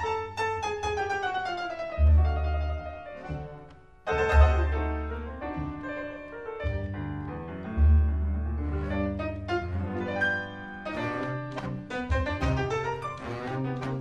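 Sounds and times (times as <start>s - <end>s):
tango music: 0.0s - 14.0s.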